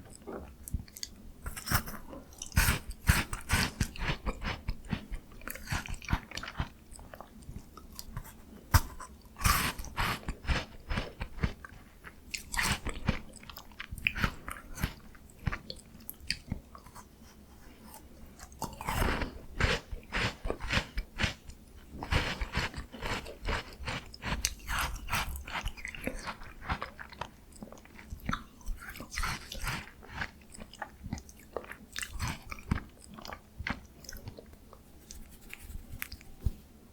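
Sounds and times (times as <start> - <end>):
chewing frozen ice cream bar: 0.0 - 17.2, 17.8 - 34.8.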